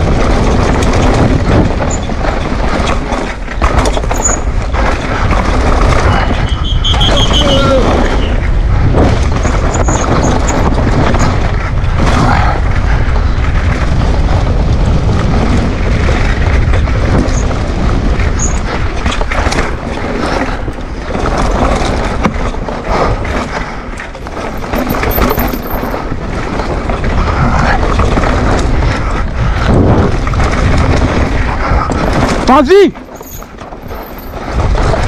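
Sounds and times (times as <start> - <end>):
bike clattering over roots and rocks: 0.0 - 35.0
bike tyres on dirt: 0.0 - 35.0
wind rumbling on microphone: 0.0 - 35.0.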